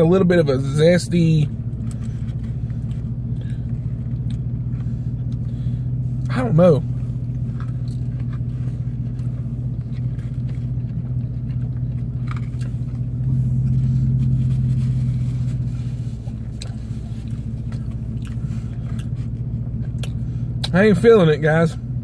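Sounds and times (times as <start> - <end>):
idling vehicle hum: 0.0 - 22.0
person chewing food: 1.7 - 6.3, 6.9 - 20.7.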